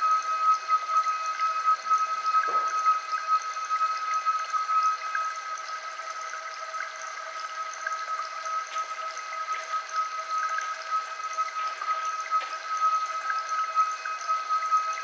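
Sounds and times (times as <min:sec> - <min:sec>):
steady high-pitched tone: 0:00.0 - 0:05.7, 0:07.8 - 0:15.0
trickling water-like patter: 0:00.0 - 0:15.0.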